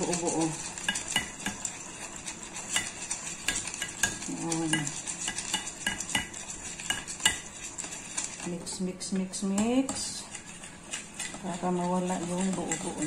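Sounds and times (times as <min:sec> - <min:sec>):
whisk clinking against glass bowl: 0:00.0 - 0:08.5, 0:09.2 - 0:13.0.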